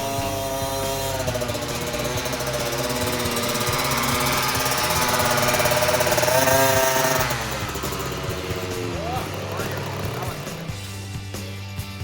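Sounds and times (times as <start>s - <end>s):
motocross bike engine revving: 0.0s - 11.5s.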